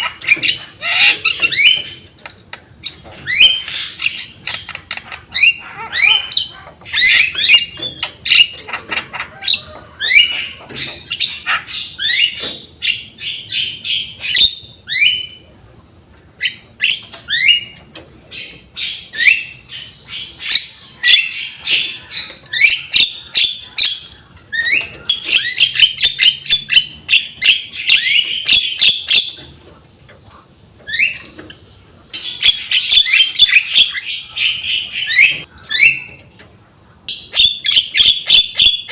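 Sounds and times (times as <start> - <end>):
bird chattering and whistling song: 0.0 - 15.5, 16.4 - 29.5, 32.1 - 36.3, 37.0 - 38.9.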